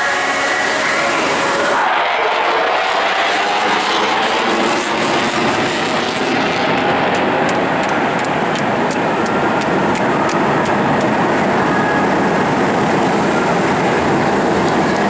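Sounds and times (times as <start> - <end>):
loud jet engine noise: 0.0 - 15.0.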